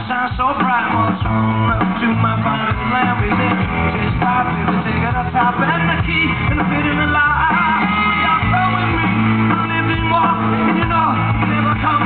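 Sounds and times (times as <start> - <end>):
lead singer: 0.0 - 12.0
rock band playing live: 0.0 - 12.0.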